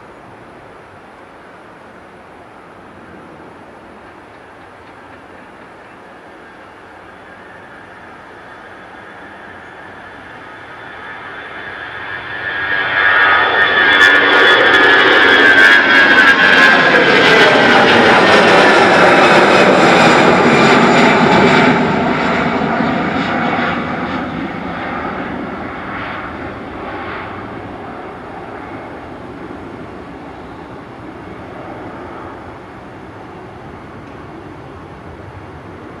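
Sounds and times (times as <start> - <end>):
jet airliner passing: 2.2 - 36.0.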